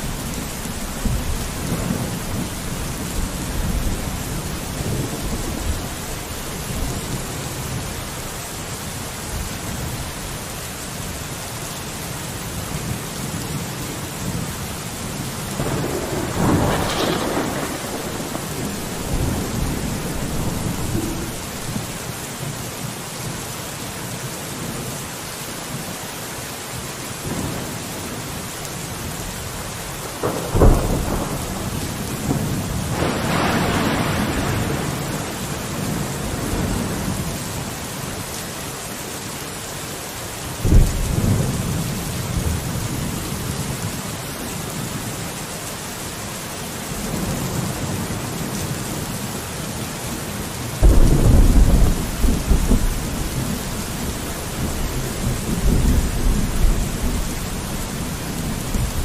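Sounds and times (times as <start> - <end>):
rain against a window: 0.0 - 59.0.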